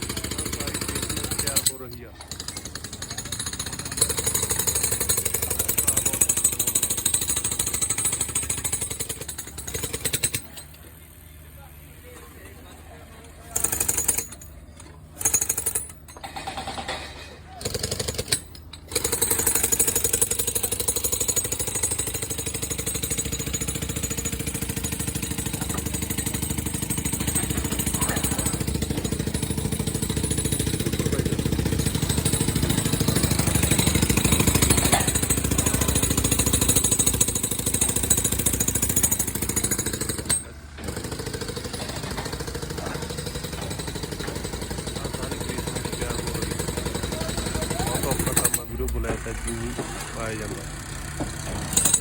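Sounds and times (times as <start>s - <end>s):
jackhammer hammering: 0.0s - 10.8s, 13.4s - 52.0s.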